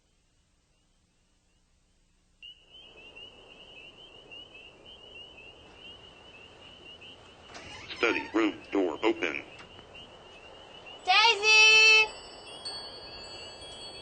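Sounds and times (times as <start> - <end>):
soft rushing background: 0.1 - 14.0
insect trill: 2.4 - 14.0.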